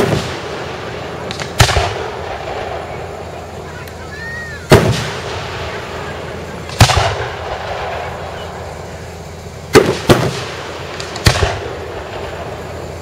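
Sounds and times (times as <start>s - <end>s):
fireworks booming: 0.0s - 13.0s.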